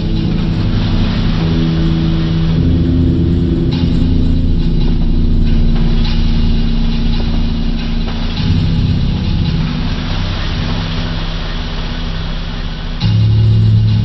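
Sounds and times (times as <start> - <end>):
background music with low chords: 0.0 - 14.0.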